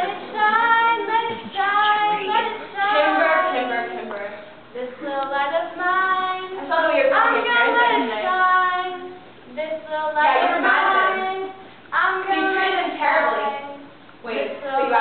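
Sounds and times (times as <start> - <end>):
girls singing together: 0.0 - 15.0.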